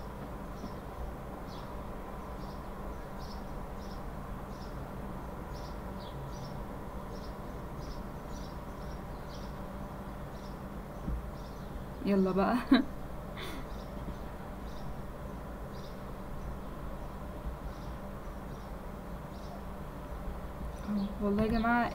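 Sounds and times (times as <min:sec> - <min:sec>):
background hum and hiss: 0:00.0 - 0:21.9.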